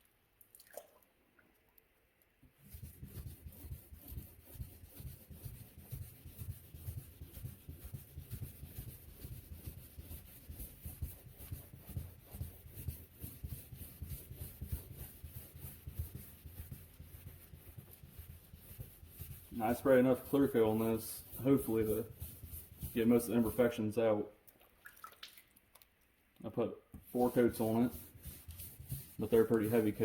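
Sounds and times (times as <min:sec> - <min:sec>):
wet sanding strokes: 0:02.6 - 0:23.9, 0:27.0 - 0:30.0.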